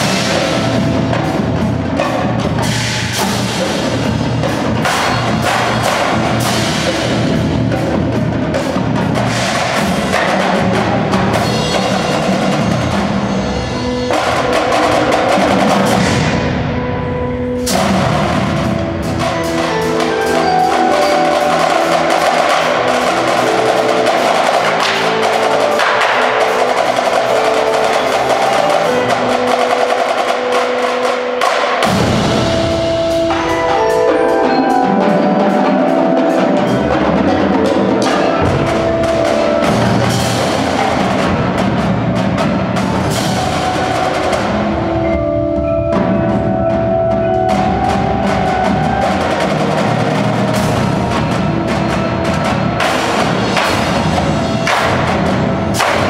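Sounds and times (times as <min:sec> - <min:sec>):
mallet keyboards: 0:00.0 - 0:56.0
marching drums: 0:00.0 - 0:56.0.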